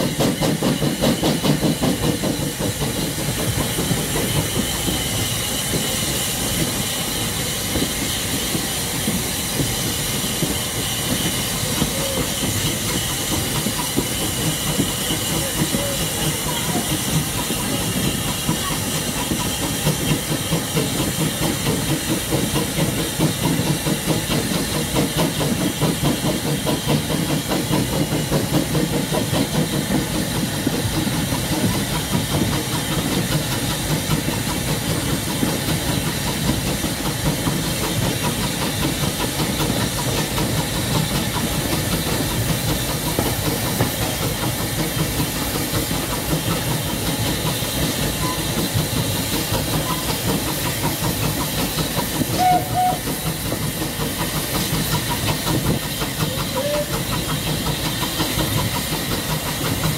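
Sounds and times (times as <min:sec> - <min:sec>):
steam hiss: 0:00.0 - 0:59.9
steam locomotive exhaust beat: 0:00.0 - 0:59.9
train wheels on rail: 0:00.0 - 0:59.9.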